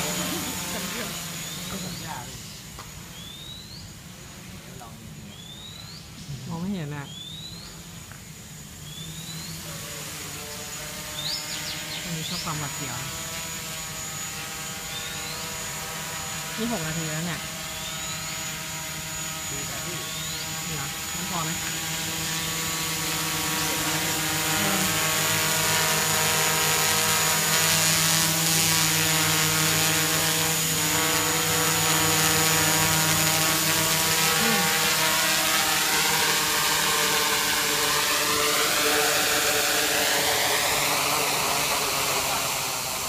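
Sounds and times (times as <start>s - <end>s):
quadcopter motors whining: 0.0s - 43.0s.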